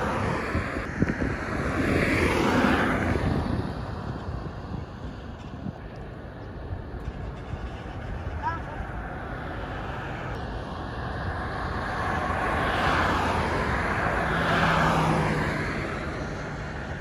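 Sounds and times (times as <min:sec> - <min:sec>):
vehicle passing on highway: 0:00.0 - 0:17.0.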